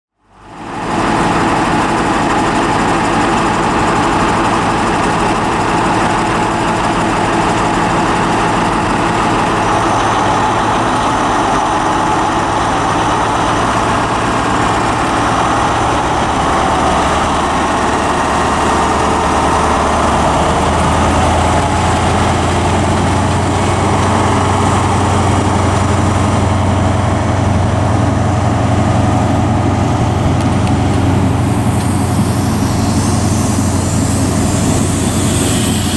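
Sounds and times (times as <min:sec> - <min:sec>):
diesel train engine droning: 0:00.2 - 0:35.9.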